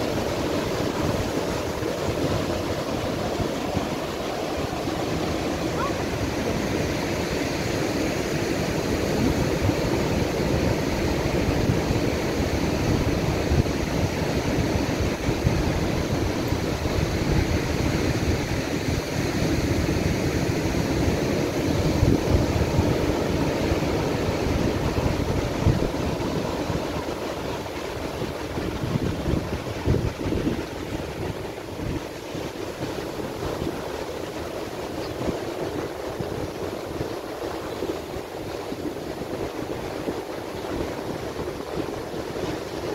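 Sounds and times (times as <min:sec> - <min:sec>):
surf washing over rocks: 0:00.0 - 0:42.9.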